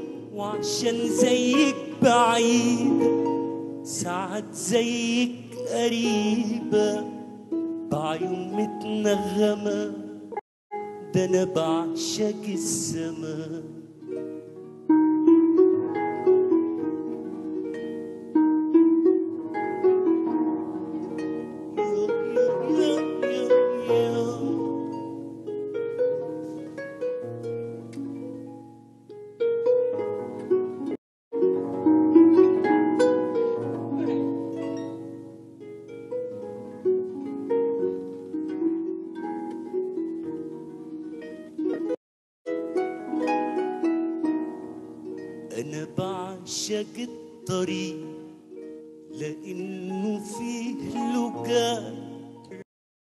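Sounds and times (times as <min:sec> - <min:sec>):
plucked harp melody: 0:00.0 - 0:52.6.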